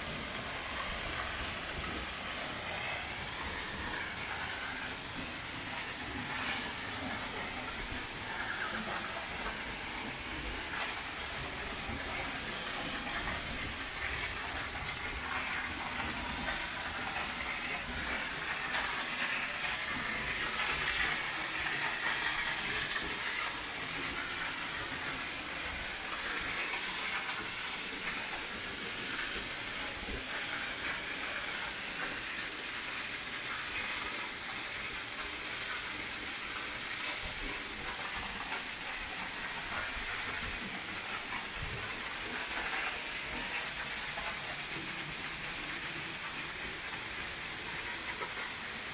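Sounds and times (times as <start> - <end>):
waterfall rushing: 0.0 - 35.4, 36.0 - 45.4.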